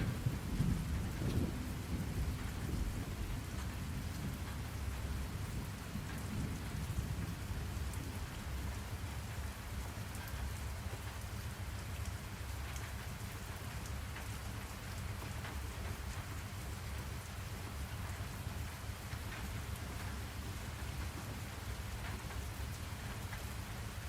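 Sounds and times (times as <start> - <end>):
rain drop ticks: 0.0 - 24.0
steady rain: 0.0 - 24.0.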